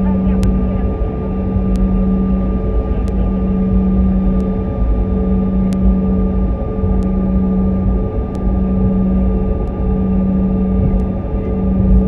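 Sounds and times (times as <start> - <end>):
jet engine rumble: 0.0 - 12.0
steady hum: 0.0 - 12.0
thin whine: 0.0 - 12.0.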